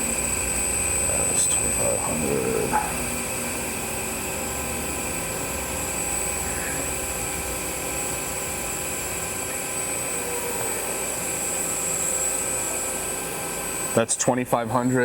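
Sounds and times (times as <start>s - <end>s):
lathe spindle hum: 0.0s - 15.0s
thin high whine: 0.0s - 15.0s.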